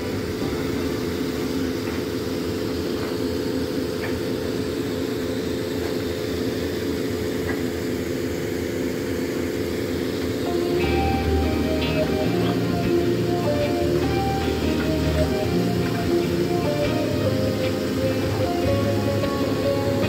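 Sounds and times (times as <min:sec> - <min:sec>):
deck machinery droning: 0:00.0 - 0:20.0.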